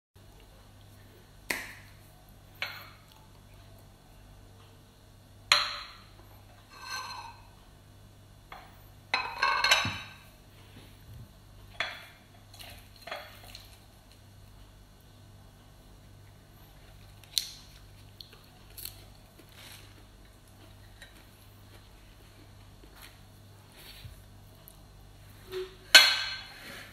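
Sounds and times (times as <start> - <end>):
faint low hum: 0.2 - 26.9.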